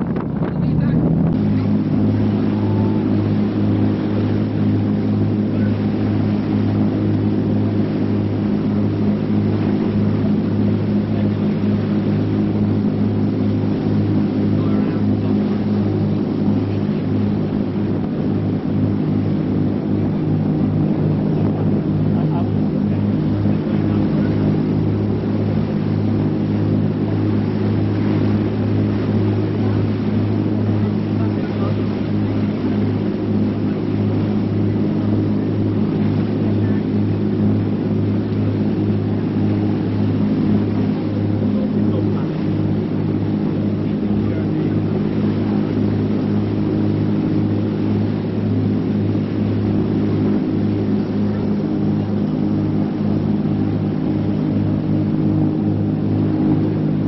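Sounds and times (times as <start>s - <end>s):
boat engines humming: 0.0s - 57.0s.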